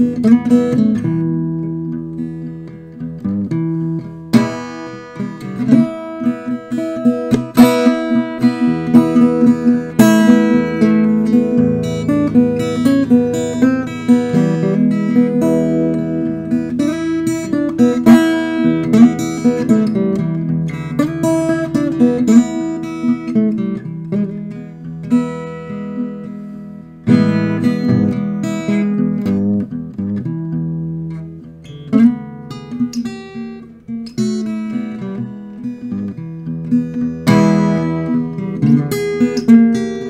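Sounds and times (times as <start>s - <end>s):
blues acoustic guitar: 0.0s - 40.0s.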